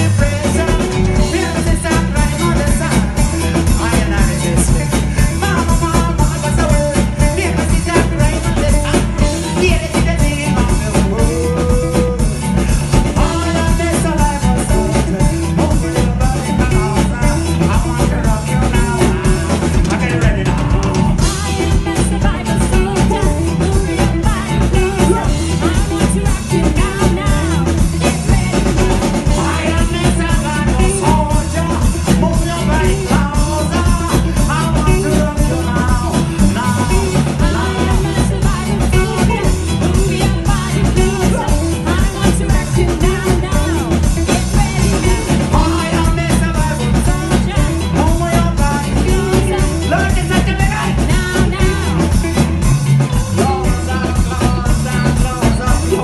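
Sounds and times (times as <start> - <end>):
live reggae band playing: 0.0 - 56.0
person singing: 0.0 - 56.0.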